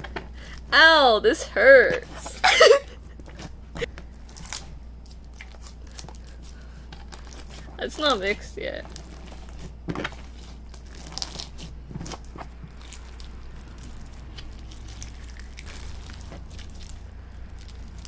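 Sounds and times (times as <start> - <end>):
steady low hum: 0.0 - 18.0
slime crunching and crackling: 3.1 - 18.0.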